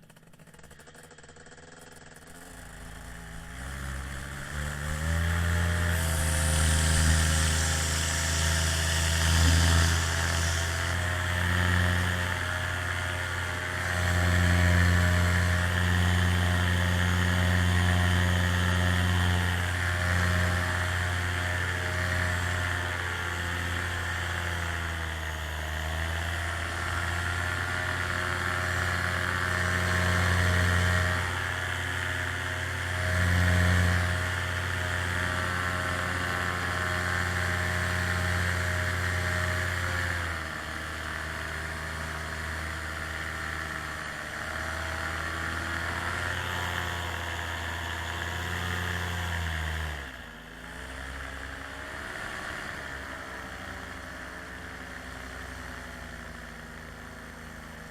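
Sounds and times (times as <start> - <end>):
small aircraft motor running: 0.0 - 57.9.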